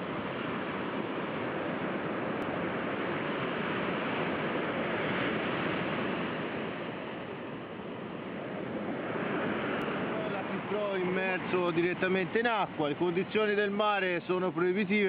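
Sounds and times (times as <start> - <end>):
sea surf rushing: 0.0 - 15.0.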